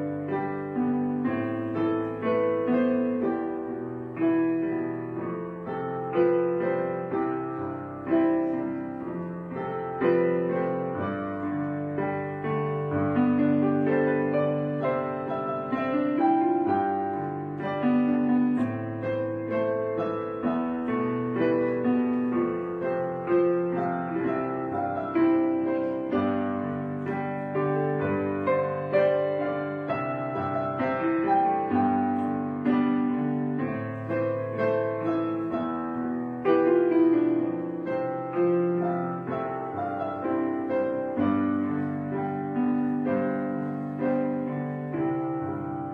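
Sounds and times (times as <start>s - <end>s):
piano music: 0.0s - 45.9s.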